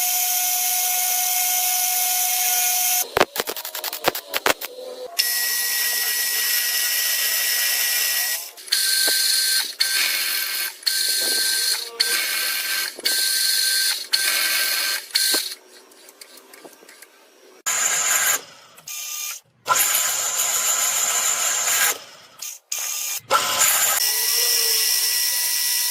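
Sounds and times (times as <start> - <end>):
machine tool cutting with whine: 0.0 - 15.6, 17.7 - 25.9.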